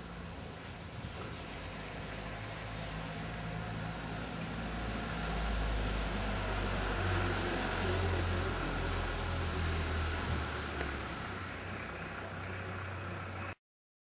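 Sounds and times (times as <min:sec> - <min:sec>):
vehicle engine humming: 0:00.0 - 0:13.6.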